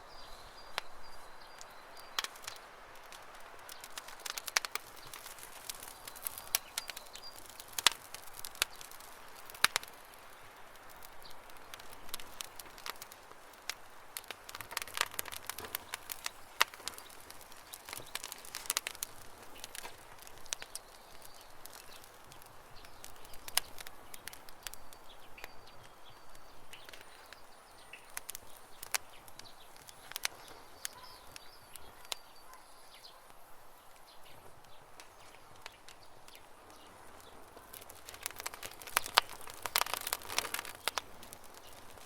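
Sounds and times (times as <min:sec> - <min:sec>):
birds chirping faintly: 0:00.0 - 0:42.0
campfire crackling and popping: 0:00.0 - 0:42.0.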